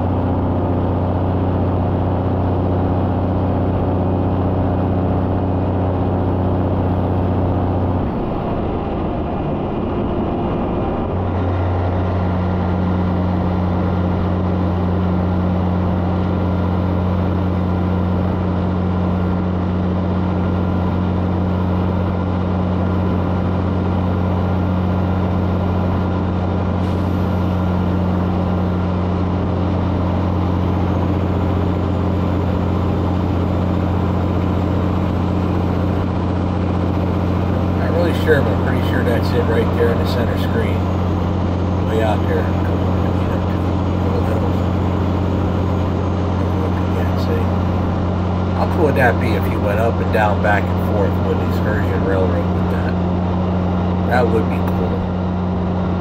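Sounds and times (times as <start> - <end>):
diesel truck engine drone: 0.0 - 56.0
road and wind noise: 0.0 - 56.0.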